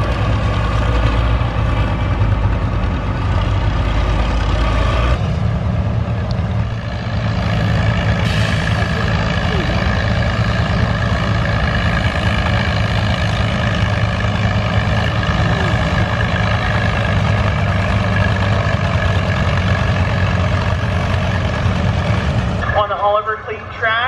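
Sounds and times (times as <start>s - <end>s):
large engine idling: 0.0s - 24.0s.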